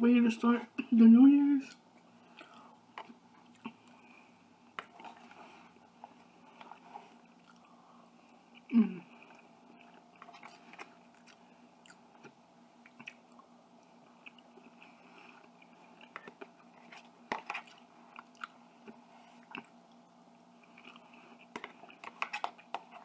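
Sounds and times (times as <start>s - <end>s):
quiet chewing: 1.7s - 23.0s.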